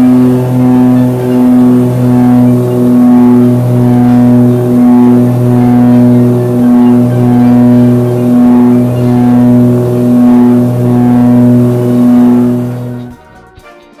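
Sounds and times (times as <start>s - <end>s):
propeller aircraft drone in cabin: 0.0s - 13.2s.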